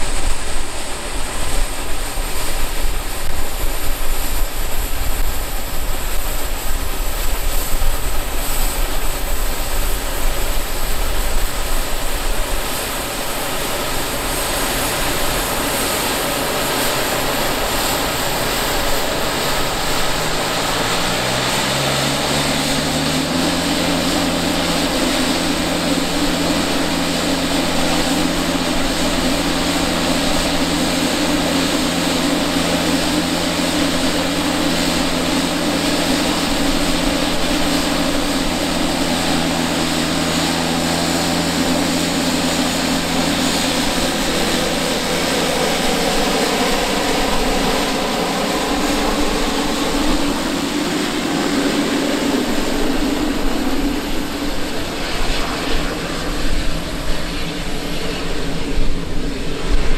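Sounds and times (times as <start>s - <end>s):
high turbine whine: 0.0s - 59.9s
turboprop propeller drone: 0.0s - 59.9s.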